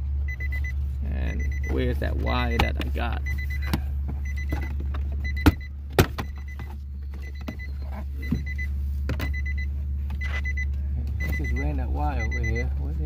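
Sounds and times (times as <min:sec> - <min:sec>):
steady low hum: 0:00.0 - 0:13.0
car warning chime beeping: 0:00.2 - 0:13.0.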